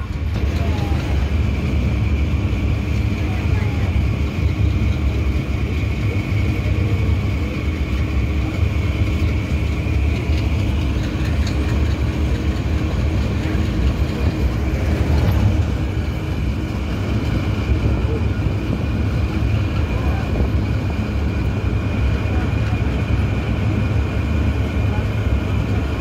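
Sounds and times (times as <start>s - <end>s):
constant high hum: 0.0s - 26.0s
train wheels rumbling on rails: 0.0s - 26.0s.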